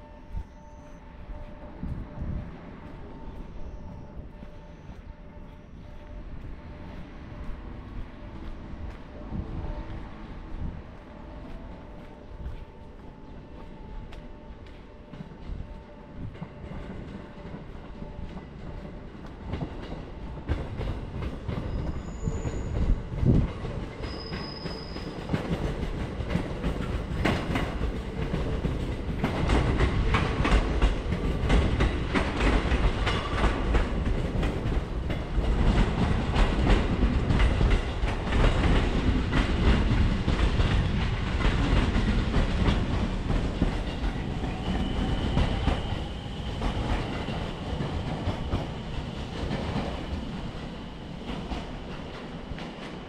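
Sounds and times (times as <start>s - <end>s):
train wheels clattering on track: 1.3s - 53.0s.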